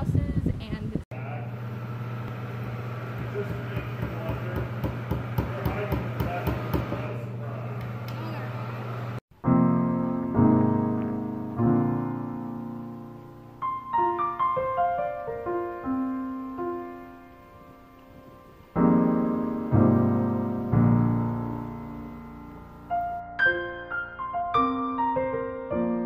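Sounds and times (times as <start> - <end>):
piano music: 2.3 - 26.0.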